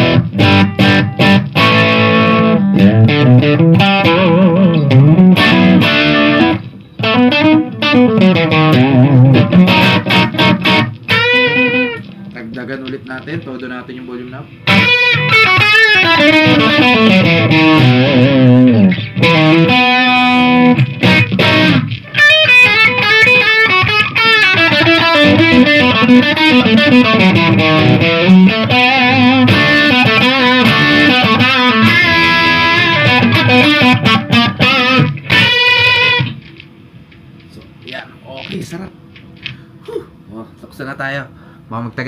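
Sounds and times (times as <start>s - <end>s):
distorted electric guitar: 0.0s - 39.5s.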